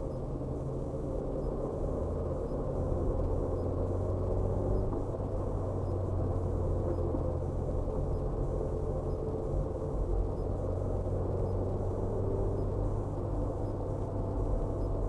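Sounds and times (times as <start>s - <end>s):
car engine hum inside cabin: 0.0s - 15.0s
road rumble: 0.0s - 15.0s.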